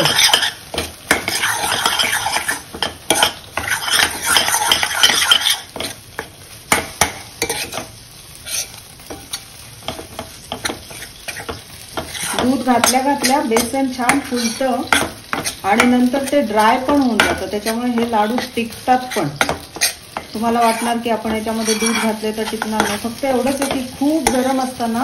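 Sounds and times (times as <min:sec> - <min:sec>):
spoon scraping steel pan: 0:00.0 - 0:06.0, 0:07.0 - 0:24.8
light sizzle: 0:00.0 - 0:25.0.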